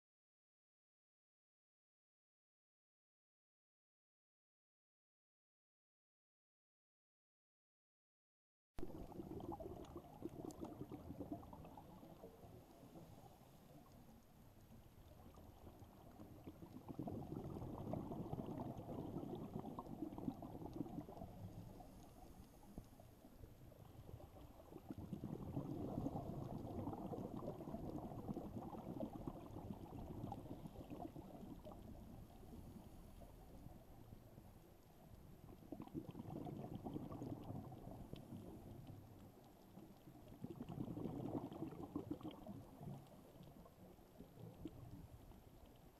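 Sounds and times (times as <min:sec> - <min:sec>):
underwater bubbling and gurgling: 0:08.8 - 0:45.9.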